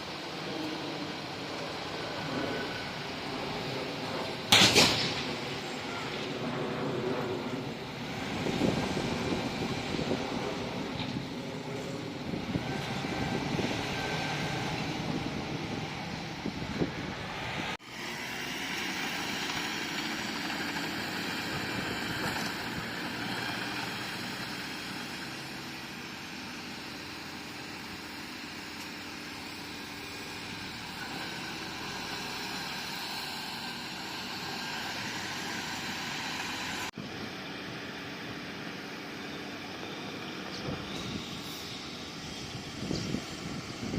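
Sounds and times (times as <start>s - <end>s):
bulldozer diesel engine running: 5.2s - 43.9s.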